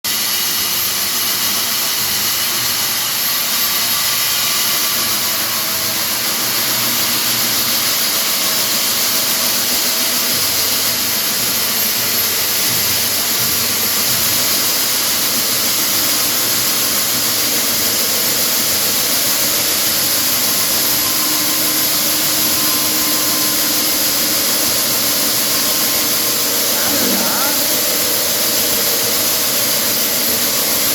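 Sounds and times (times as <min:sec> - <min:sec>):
power tool cutting concrete: 0:00.1 - 0:30.9.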